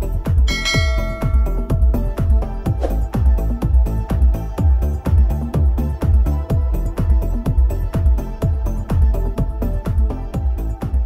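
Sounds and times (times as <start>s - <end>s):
deep bass drum beat: 0.0s - 11.0s
electronic music: 0.0s - 11.0s.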